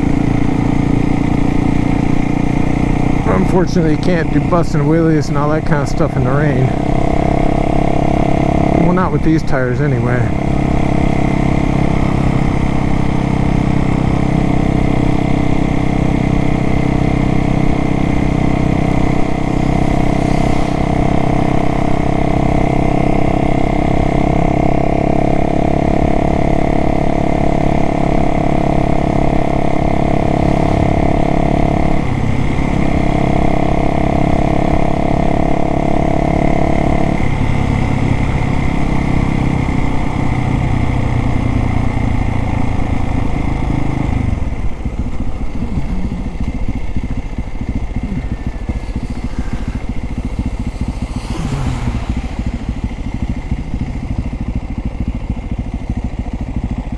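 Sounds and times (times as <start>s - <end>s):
dirt bike engine running: 0.0s - 56.9s.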